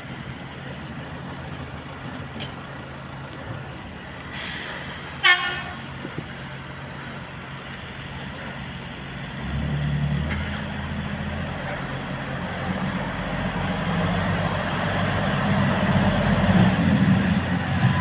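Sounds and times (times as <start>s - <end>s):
diesel train engine: 0.0s - 18.0s.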